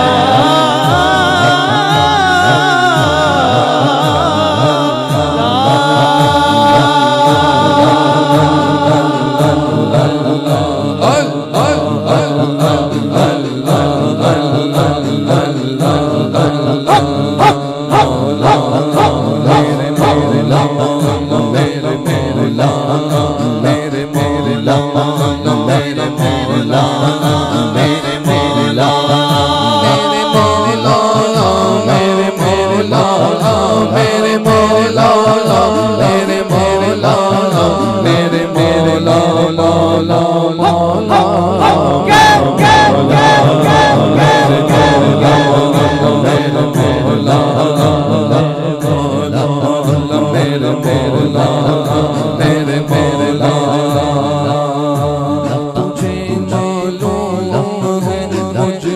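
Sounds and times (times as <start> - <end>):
man singing into microphone: 0.0 - 58.9.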